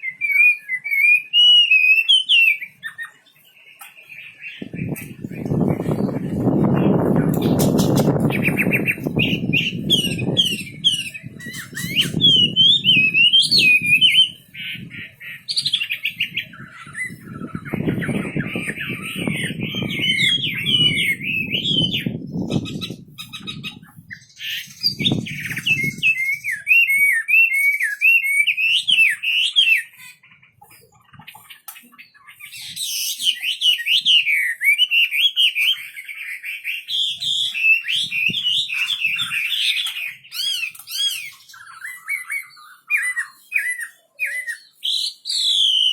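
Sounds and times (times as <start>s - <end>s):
songbird warbling: 0.0s - 45.9s.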